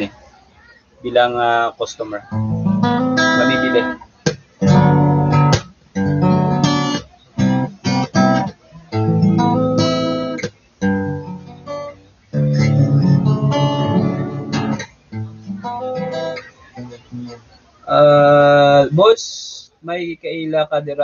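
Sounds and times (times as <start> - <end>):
acoustic guitar strumming: 0.0 - 19.2.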